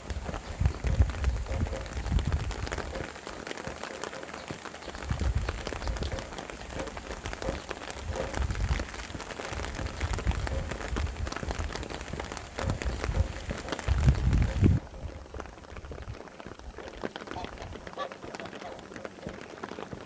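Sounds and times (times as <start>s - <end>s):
rain drops ticking: 0.0s - 20.0s
wind buffeting microphone: 0.0s - 20.0s.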